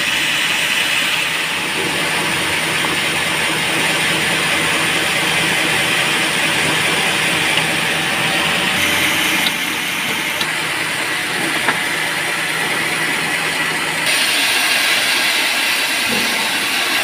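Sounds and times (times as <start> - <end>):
band sawmill running: 0.0 - 17.0.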